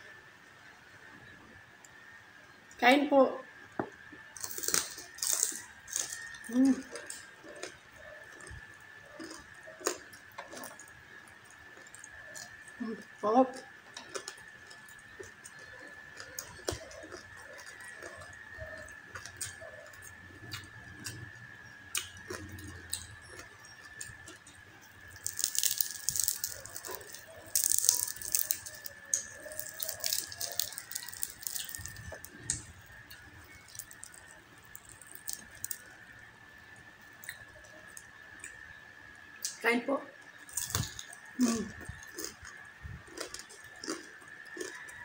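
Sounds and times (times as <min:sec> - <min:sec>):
faint high whine: 0:00.0 - 0:45.0
crispy skin crackling and crunching: 0:04.0 - 0:38.7, 0:40.2 - 0:45.0.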